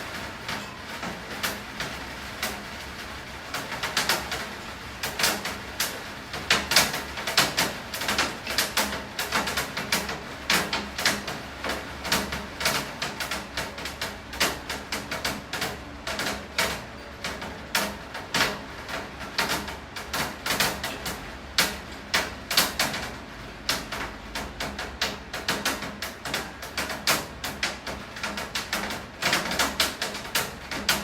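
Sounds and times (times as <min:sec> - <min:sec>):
rain tapping on hard surface: 0:00.0 - 0:31.0.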